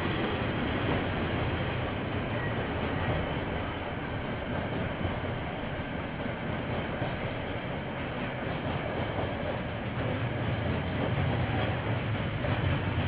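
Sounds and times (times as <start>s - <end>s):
train passing rumble: 0.0s - 13.0s.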